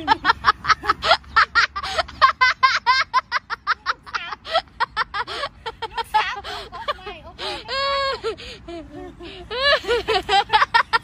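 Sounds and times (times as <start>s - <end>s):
child laughing: 0.0s - 11.0s.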